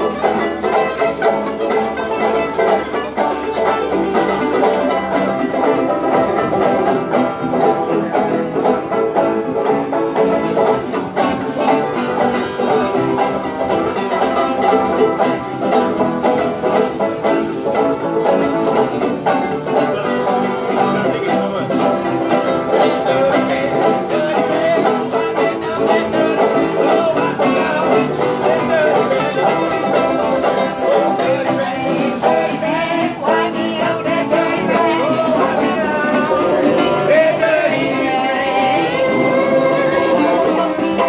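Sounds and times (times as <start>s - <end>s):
banjo picking: 0.0s - 41.0s
strummed acoustic guitars: 0.0s - 41.0s.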